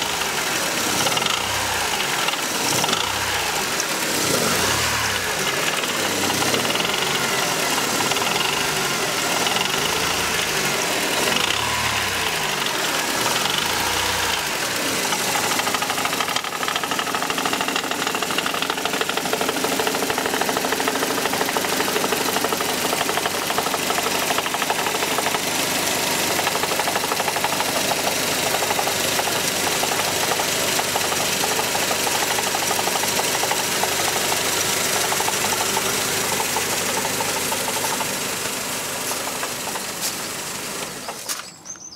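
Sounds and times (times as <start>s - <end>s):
engine with rattling knock: 0.0s - 41.6s.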